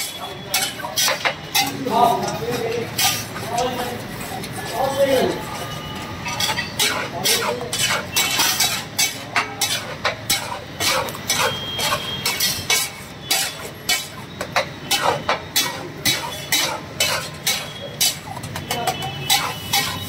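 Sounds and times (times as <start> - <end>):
metal spatula scraping iron griddle: 0.0 - 20.0.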